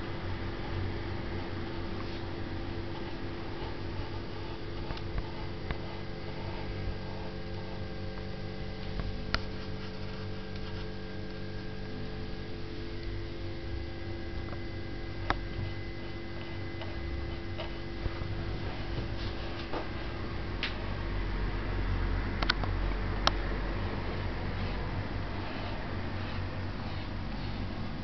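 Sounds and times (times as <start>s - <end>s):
electrical hum with held tones: 0.0s - 28.0s.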